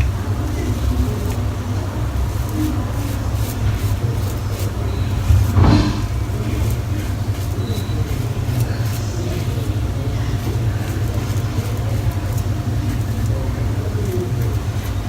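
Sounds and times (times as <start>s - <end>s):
razor scraping stubble: 0.0s - 15.0s
steady low hum: 0.0s - 15.0s.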